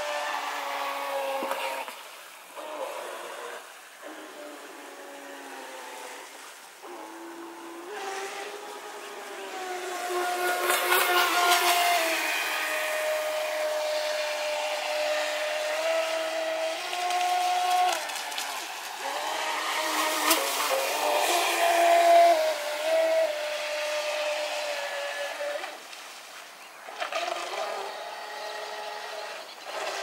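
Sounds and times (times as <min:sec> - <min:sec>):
model boat motor whining: 0:00.0 - 0:25.9, 0:26.8 - 0:30.0.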